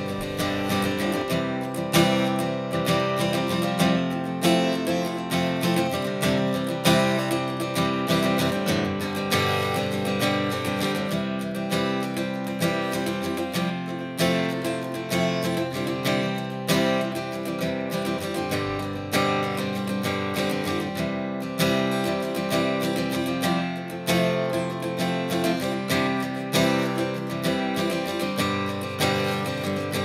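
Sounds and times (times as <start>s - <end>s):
strummed acoustic guitar: 0.0s - 30.0s.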